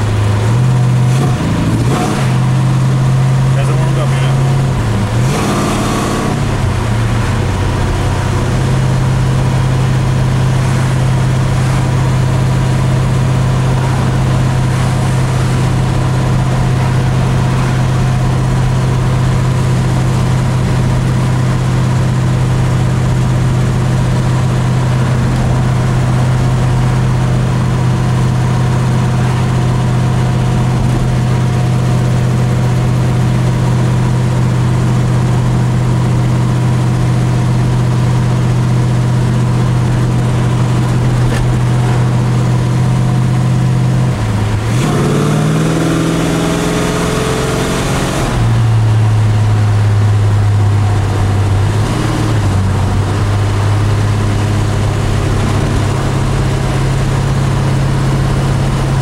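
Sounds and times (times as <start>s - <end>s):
car engine low drone: 0.0s - 59.0s
road noise: 0.0s - 59.0s.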